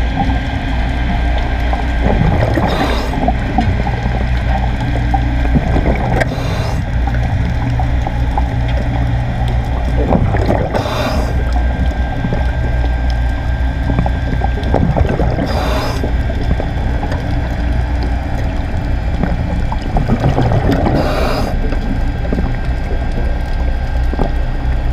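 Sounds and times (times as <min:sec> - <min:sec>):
low underwater hum with crackling: 0:00.0 - 0:24.9
regulator bubbles rushing: 0:00.0 - 0:24.9.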